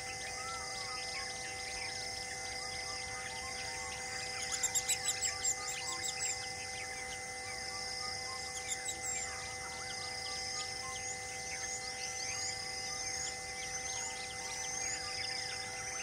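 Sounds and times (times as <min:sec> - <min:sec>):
birds chirping and whistling: 0:00.0 - 0:16.0
insect buzz: 0:00.0 - 0:16.0.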